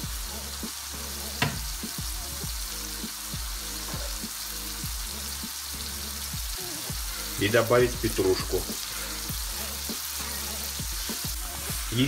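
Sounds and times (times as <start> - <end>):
mushrooms sizzling in pan: 0.0 - 12.0.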